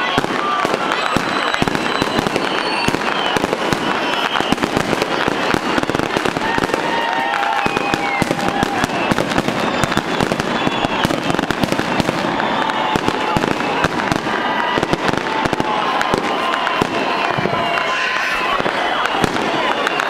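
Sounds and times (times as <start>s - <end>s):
fireworks cracking and banging: 0.0s - 20.0s.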